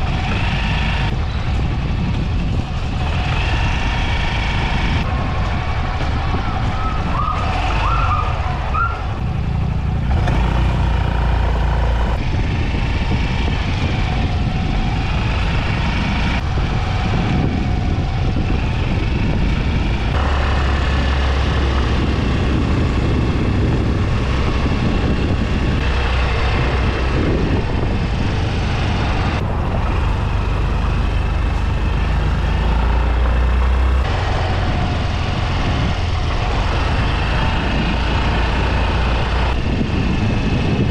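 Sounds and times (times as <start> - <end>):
scooter engine: 0.0 - 40.9
wind rumble on microphone: 0.0 - 40.9.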